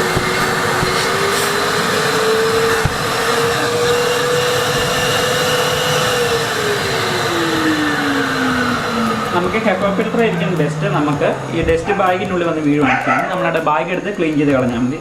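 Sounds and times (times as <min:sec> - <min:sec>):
vacuum cleaner motor whine: 0:00.0 - 0:15.0.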